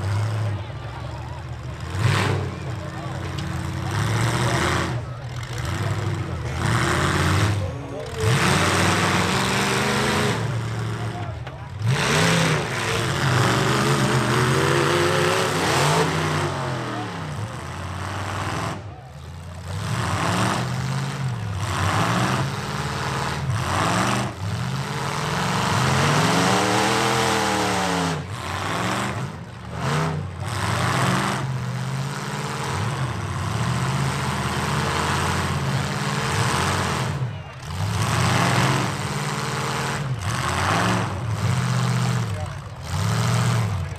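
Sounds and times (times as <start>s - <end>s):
truck engines revving: 0.0s - 43.9s.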